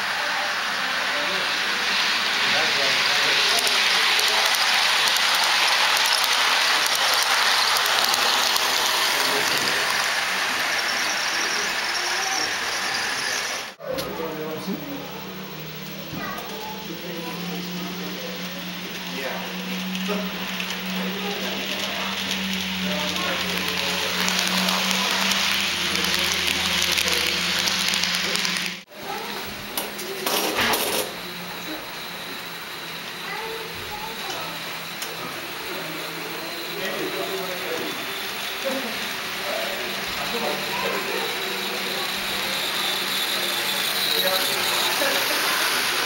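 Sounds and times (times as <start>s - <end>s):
model train wheels on track: 0.0s - 46.0s.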